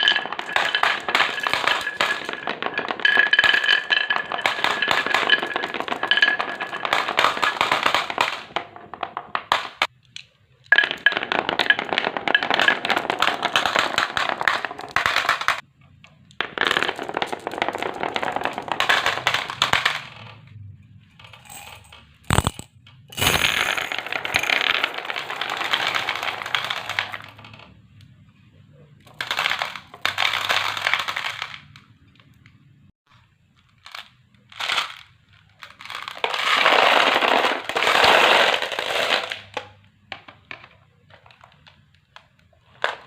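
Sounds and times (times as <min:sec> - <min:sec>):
marbles rolling down wooden run: 0:00.0 - 0:09.9, 0:10.7 - 0:15.6, 0:16.4 - 0:20.4, 0:21.2 - 0:27.8, 0:29.1 - 0:31.8, 0:34.6 - 0:41.9.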